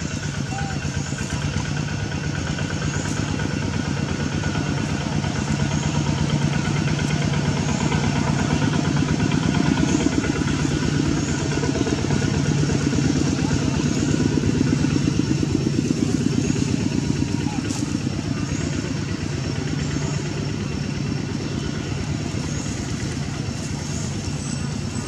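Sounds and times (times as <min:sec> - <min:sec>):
engine running with fast pulse: 0:00.0 - 0:25.0.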